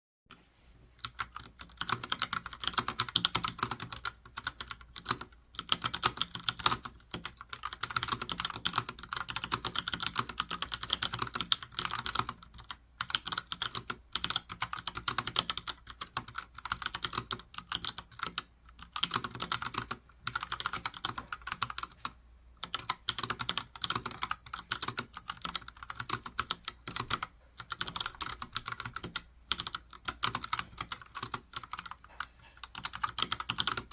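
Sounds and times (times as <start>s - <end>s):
mechanical keyboard typing: 1.0s - 33.9s.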